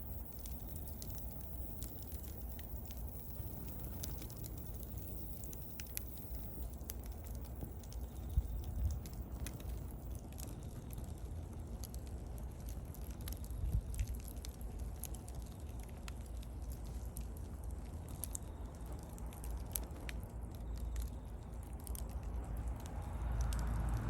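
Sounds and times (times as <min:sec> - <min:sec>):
bonfire crackles and pops: 0:00.0 - 0:24.0
low steady rumble: 0:00.0 - 0:24.0.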